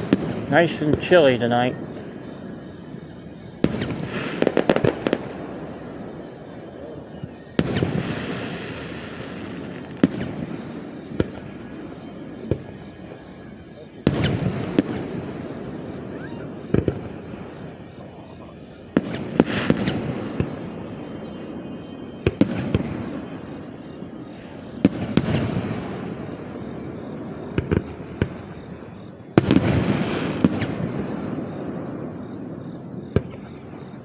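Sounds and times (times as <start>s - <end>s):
firework cracks and pops: 0.0s - 34.0s
fireworks bursting with rumbling echo: 0.0s - 34.0s.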